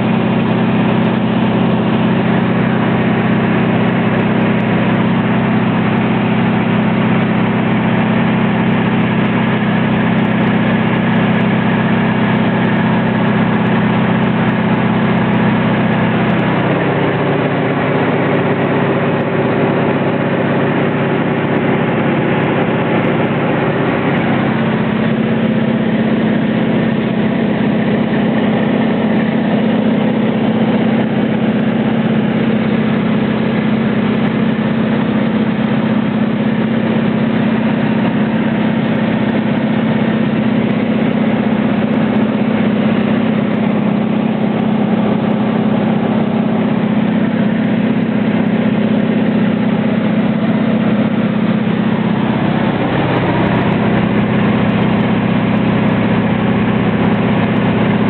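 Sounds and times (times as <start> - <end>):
propeller aircraft engine droning: 0.0 - 58.0.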